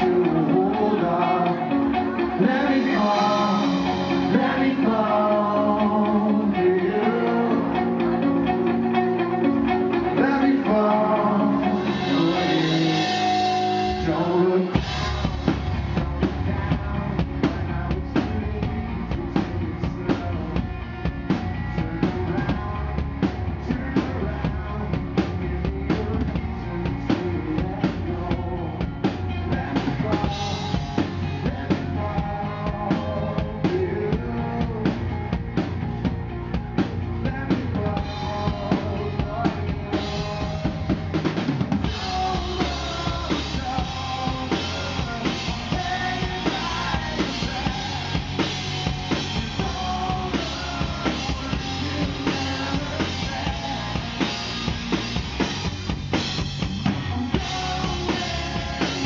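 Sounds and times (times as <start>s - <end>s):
live rock band playing: 0.0s - 59.0s
man singing: 0.0s - 59.0s.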